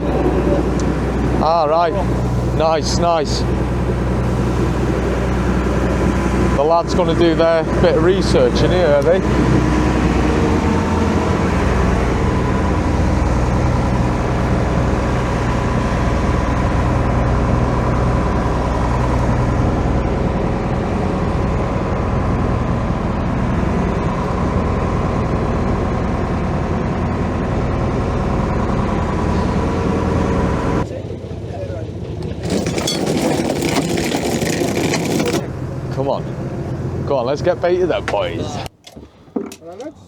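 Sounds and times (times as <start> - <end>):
boat engine drone: 0.0 - 40.0.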